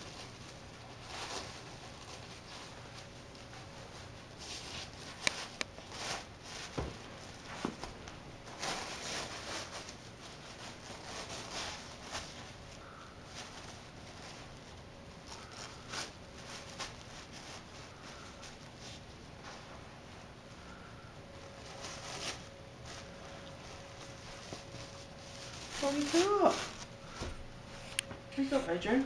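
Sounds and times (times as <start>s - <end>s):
dog tearing tissue paper: 0.0s - 19.6s, 21.4s - 28.0s.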